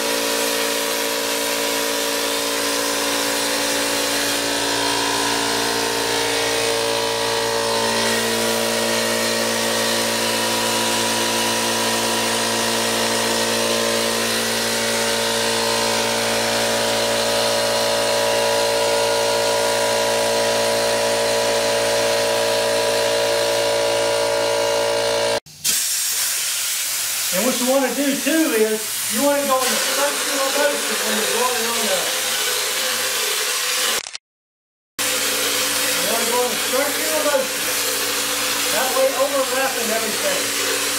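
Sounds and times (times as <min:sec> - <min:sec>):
spray gun air hiss: 0:00.0 - 0:20.2, 0:20.8 - 0:34.0, 0:35.1 - 0:40.9
air compressor running: 0:00.0 - 0:34.2, 0:35.0 - 0:40.9.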